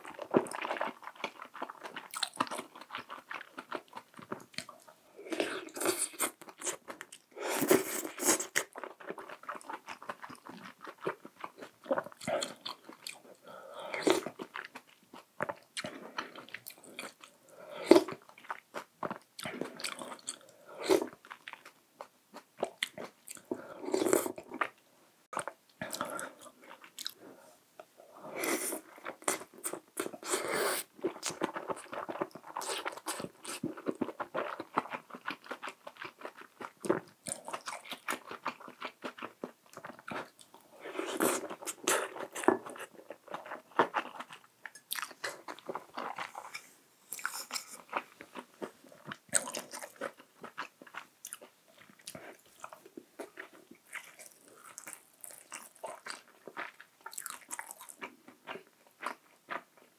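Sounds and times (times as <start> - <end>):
man chewing wetly: 0.0 - 59.9.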